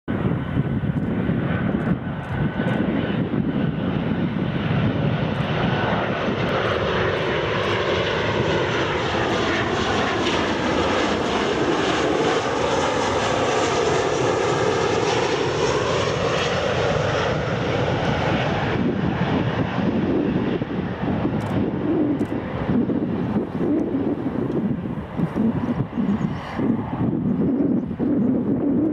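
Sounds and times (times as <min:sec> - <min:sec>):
jet airliner roar: 0:00.1 - 0:28.9.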